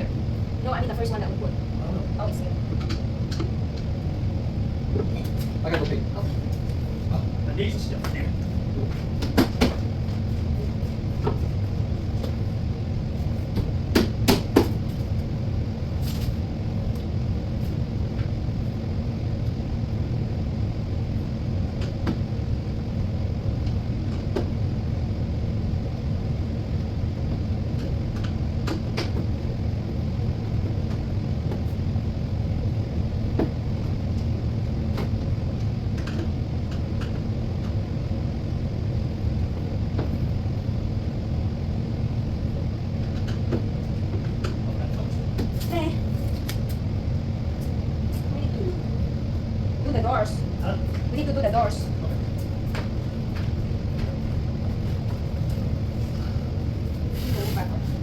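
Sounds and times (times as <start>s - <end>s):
low steady rumble: 0.0s - 58.0s.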